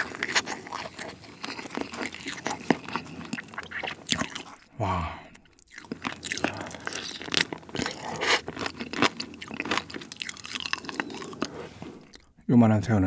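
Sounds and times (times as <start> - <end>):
crunchy chewing: 0.0 - 12.4.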